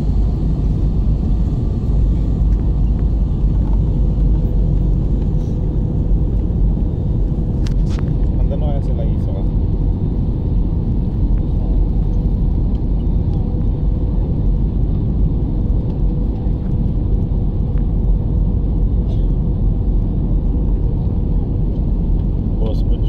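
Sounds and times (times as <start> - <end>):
jet engines and airflow rumble: 0.0 - 23.0.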